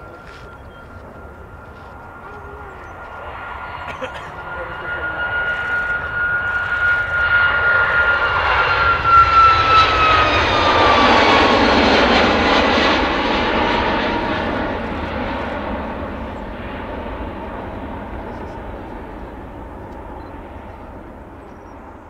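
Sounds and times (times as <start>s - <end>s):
jet engine fan whine: 0.0s - 22.0s
jet engine roar: 0.0s - 22.0s.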